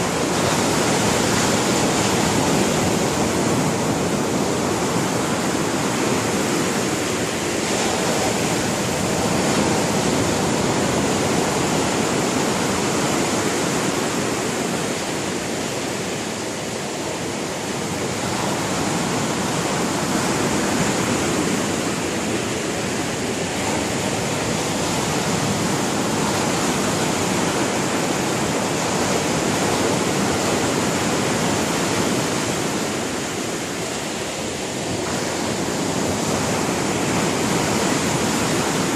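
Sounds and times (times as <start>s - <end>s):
waves breaking on shore: 0.0s - 38.9s.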